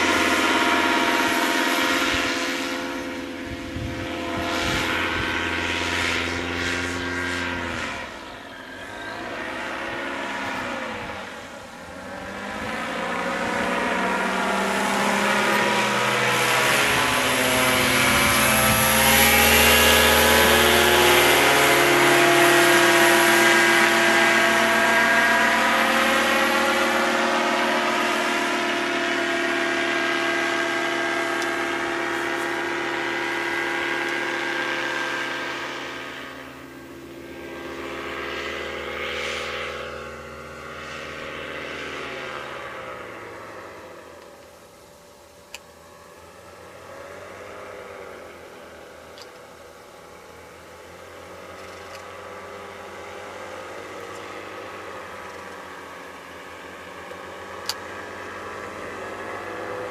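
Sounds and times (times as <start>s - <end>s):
paramotor engine flying past: 0.0s - 59.9s.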